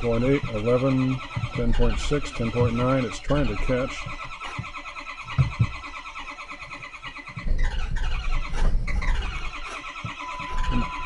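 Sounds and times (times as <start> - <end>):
engine firing: 0.0 - 11.0
starter cranking diesel engine: 0.0 - 11.0.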